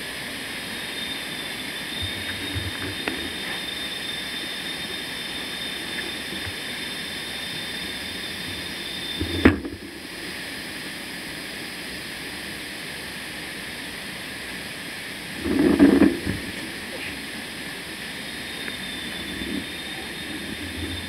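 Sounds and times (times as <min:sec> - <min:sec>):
bike tyres and wind rushing: 0:00.0 - 0:21.0
thin high whine: 0:00.0 - 0:21.0.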